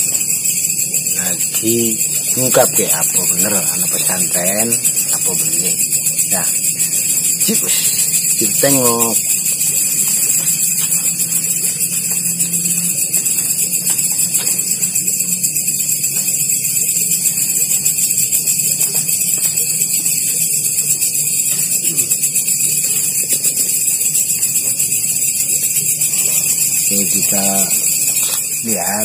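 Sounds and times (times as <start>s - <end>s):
faint low hum: 0.0s - 24.8s
crickets trilling: 0.0s - 29.0s.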